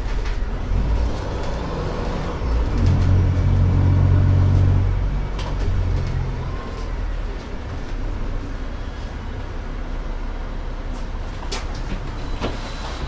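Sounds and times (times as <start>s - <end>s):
diesel bus engine rumbling: 0.0s - 13.0s.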